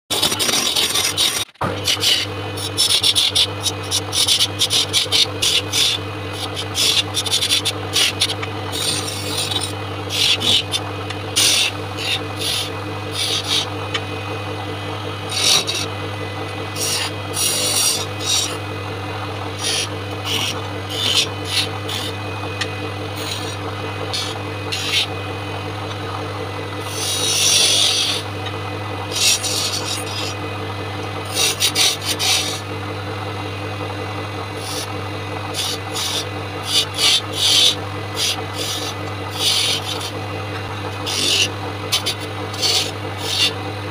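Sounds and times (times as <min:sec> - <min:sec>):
chisel scraping spinning wood: 0:00.1 - 0:43.9
wood lathe motor humming: 0:00.1 - 0:43.9.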